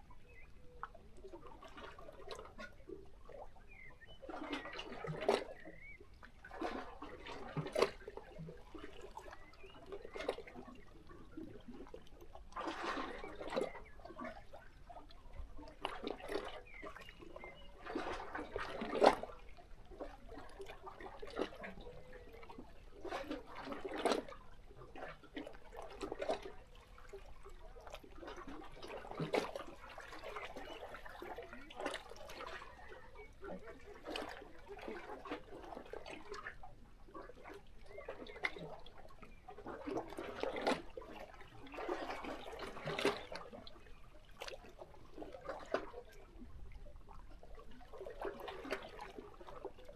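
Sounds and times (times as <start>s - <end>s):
waves lapping against rocks: 0.0s - 49.9s.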